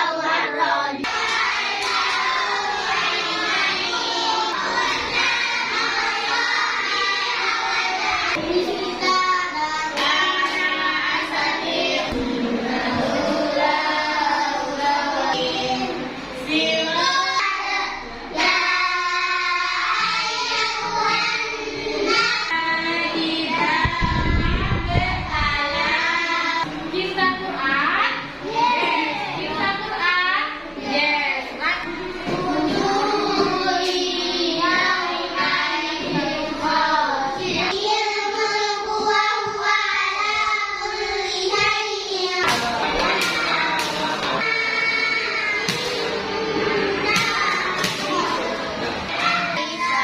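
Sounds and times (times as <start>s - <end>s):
children singing in unison: 0.0s - 26.8s, 31.9s - 50.0s.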